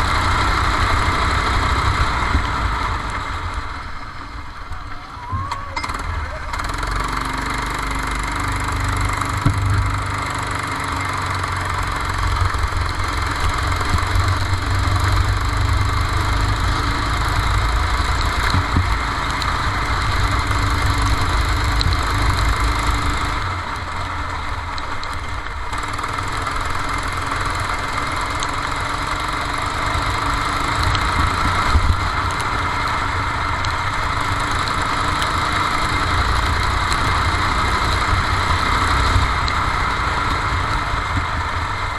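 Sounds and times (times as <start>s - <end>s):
go-kart engine running: 0.0s - 41.9s.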